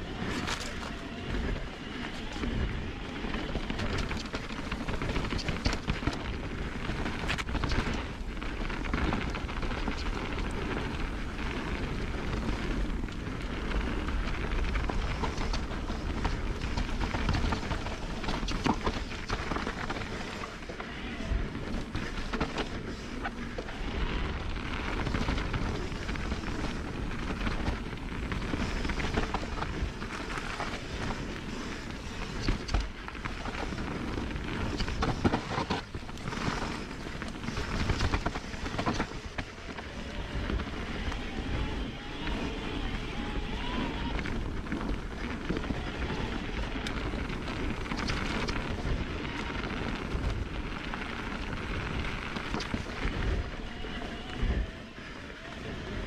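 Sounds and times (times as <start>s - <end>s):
bike rattling over bumps: 0.0s - 56.0s
bike tyres rolling over dirt: 0.0s - 56.0s
wind buffeting microphone: 0.0s - 56.0s.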